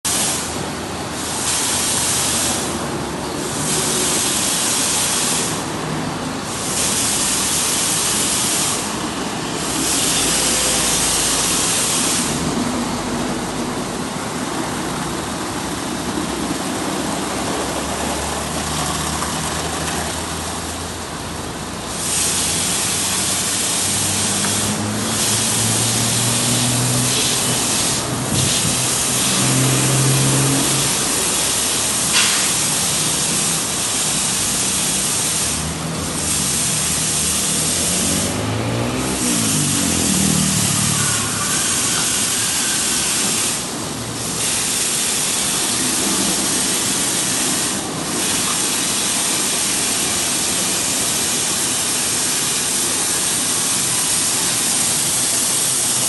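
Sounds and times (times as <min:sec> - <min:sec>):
loud hissing spray bursts: 0:00.1 - 0:56.0.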